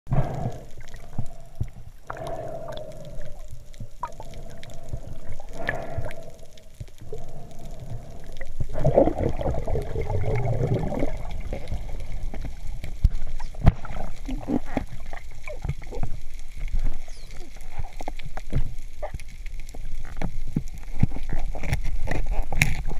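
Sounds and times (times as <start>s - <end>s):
muffled water gurgling: 0.1s - 22.9s
water bubbling: 0.1s - 22.9s.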